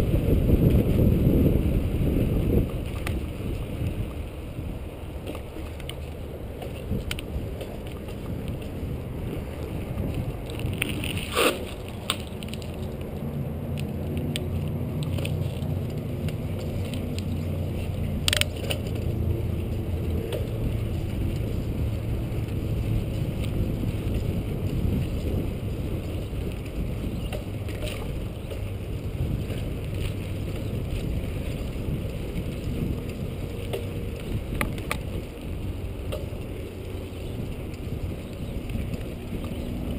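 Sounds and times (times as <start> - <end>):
bicycle rattling: 0.0 - 39.9
wind rumble on microphone: 0.0 - 39.9.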